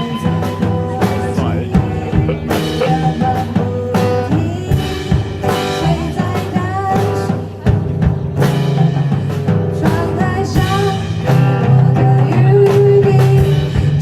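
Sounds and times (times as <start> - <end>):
live band playing pop ballad: 0.0 - 14.0.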